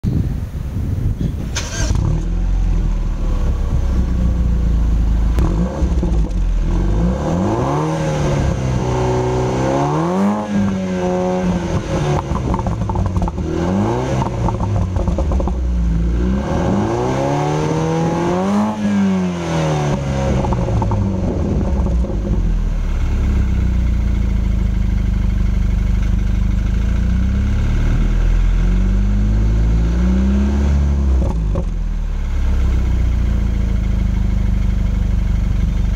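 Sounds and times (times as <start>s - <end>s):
car engine idling and revving: 0.1s - 35.9s.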